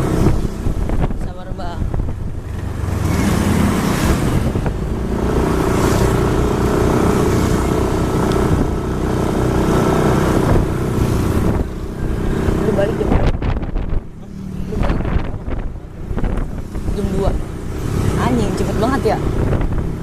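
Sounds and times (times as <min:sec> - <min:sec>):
road and wind noise: 0:00.0 - 0:20.0
vehicle engine running: 0:00.0 - 0:20.0.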